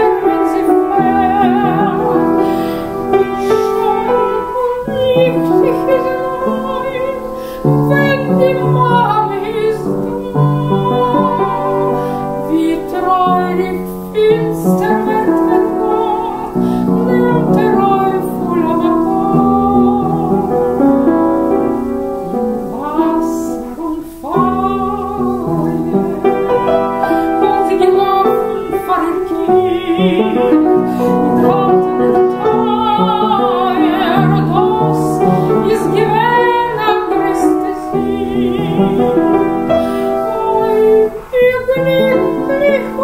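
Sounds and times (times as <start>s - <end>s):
piano chords: 0.0s - 43.0s
woman singing a ballad: 0.0s - 43.0s.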